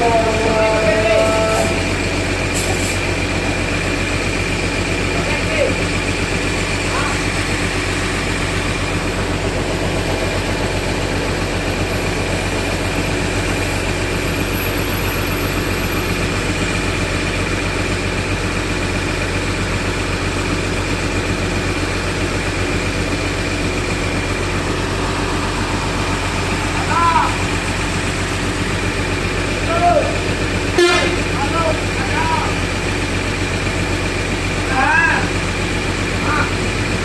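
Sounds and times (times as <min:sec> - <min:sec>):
bus diesel engine idling: 0:00.0 - 0:37.0.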